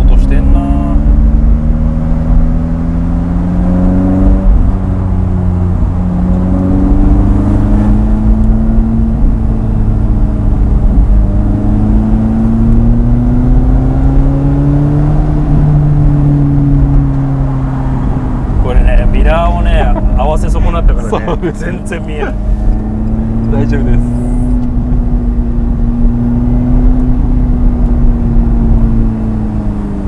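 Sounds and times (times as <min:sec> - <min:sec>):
car engine under throttle: 0:00.0 - 0:30.0.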